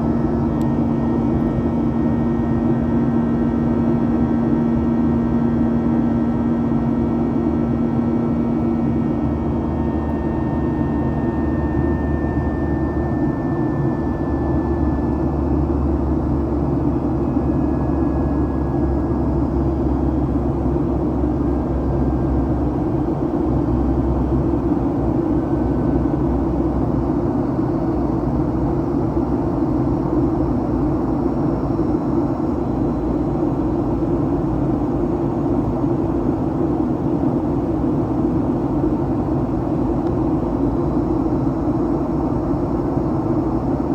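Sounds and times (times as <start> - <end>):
airplane cabin drone: 0.0 - 43.9.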